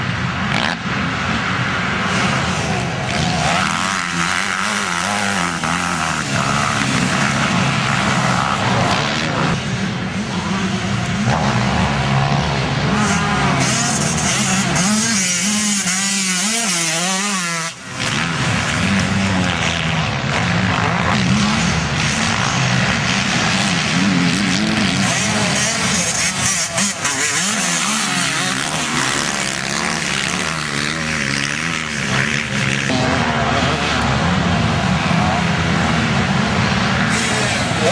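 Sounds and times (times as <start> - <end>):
motocross engines revving: 0.0 - 37.9.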